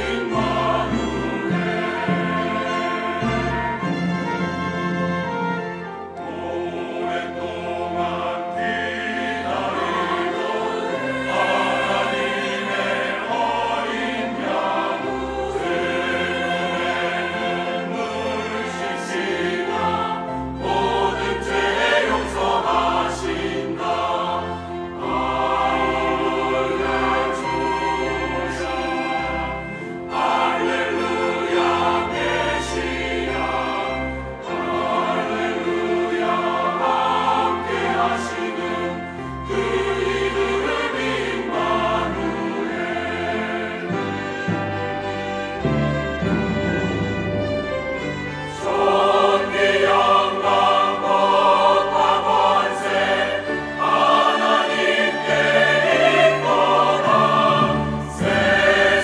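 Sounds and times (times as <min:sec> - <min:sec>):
church choir singing: 0:00.0 - 0:59.0
piano: 0:00.0 - 0:59.0
strings: 0:00.0 - 0:59.0.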